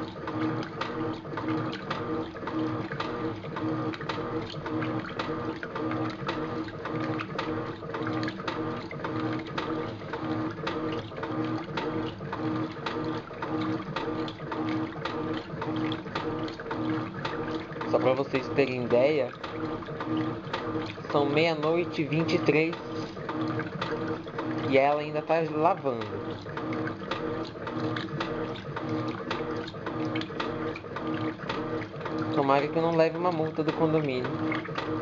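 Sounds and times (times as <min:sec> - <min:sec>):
washing machine motor hum: 0:00.0 - 0:35.0.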